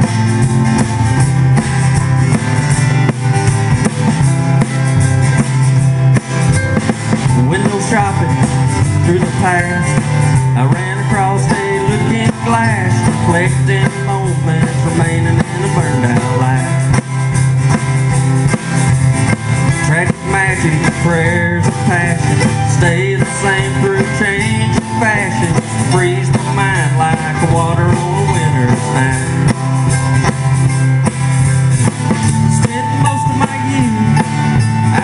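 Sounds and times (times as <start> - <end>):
acoustic guitars: 0.0 - 35.0
banjo: 0.0 - 35.0
drum kit: 0.0 - 35.0
upright bass: 0.0 - 35.0.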